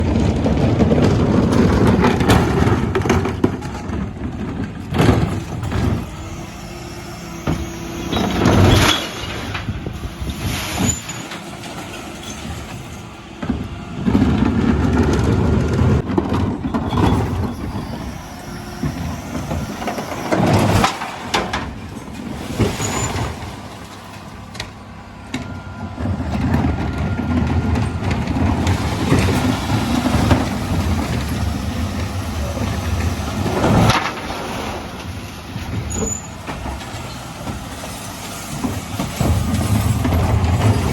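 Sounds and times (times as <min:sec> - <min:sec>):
diesel lorry engine running: 0:00.0 - 0:40.9.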